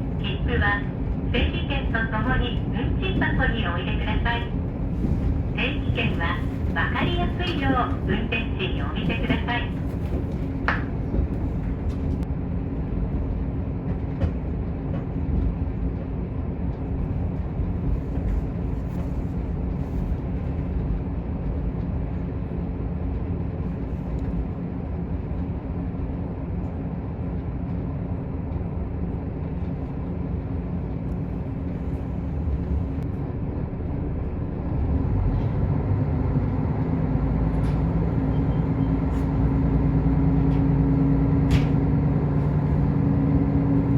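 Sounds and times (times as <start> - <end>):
railcar engine rumble: 0.0 - 43.9.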